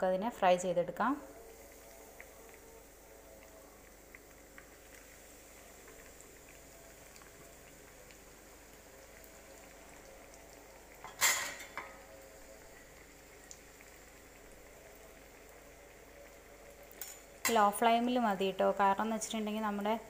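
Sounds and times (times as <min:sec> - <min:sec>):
deep-frying in hot oil: 0:00.0 - 0:20.0.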